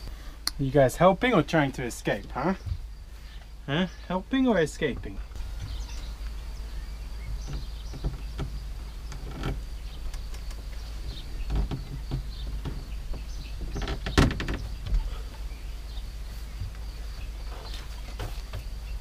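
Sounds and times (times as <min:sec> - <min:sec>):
rabbits shuffling on boards: 0:00.0 - 0:19.0.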